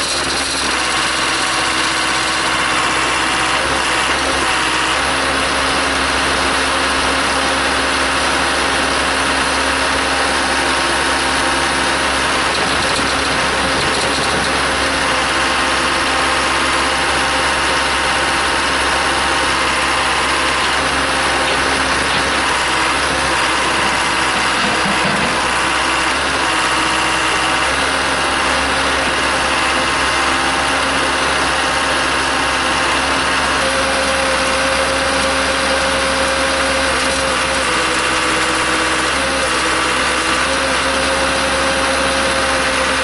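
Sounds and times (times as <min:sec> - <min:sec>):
backhoe engine running: 0:00.0 - 0:43.0.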